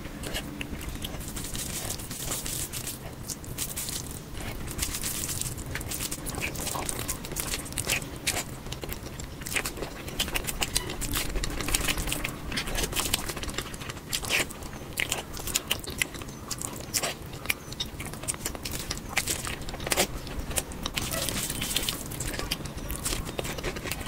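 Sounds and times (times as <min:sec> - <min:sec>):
person chewing and crunching food: 0:00.0 - 0:24.0.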